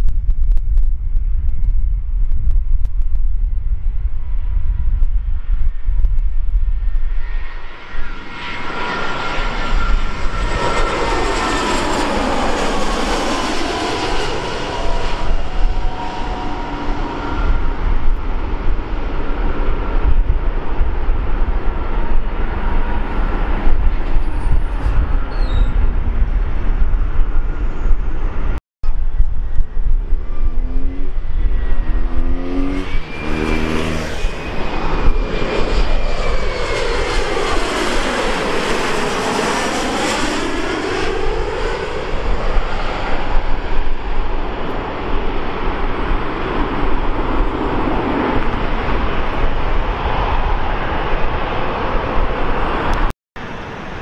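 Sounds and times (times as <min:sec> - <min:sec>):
jet engine whine: 0:00.0 - 0:54.0
low jet rumble: 0:00.0 - 0:54.0.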